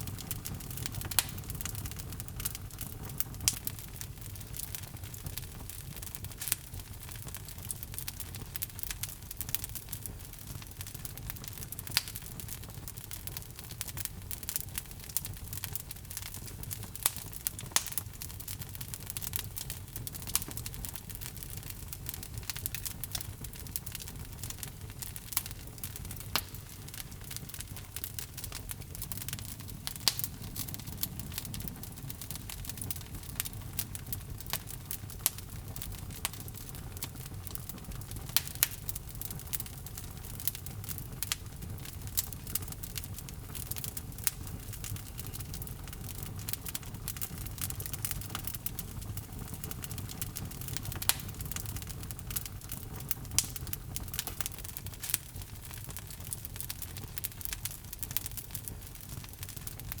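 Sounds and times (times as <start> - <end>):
logs crackling in a fireplace: 0.0 - 60.0
low rumble of flames: 0.0 - 60.0.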